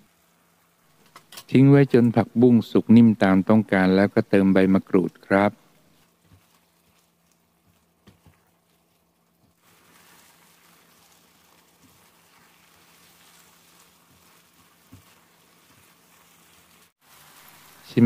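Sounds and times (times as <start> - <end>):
faint sizzling in a pan: 0.0 - 18.0.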